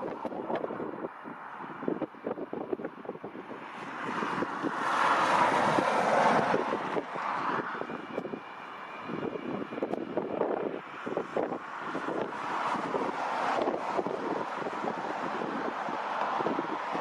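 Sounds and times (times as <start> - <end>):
jet aircraft engines passing: 0.0 - 17.0
wind buffeting microphone: 0.0 - 17.0.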